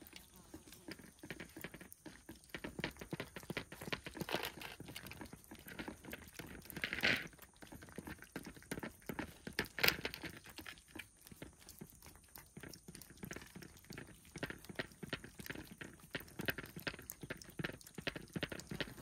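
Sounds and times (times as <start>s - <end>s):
cats crunching food: 0.0s - 19.0s.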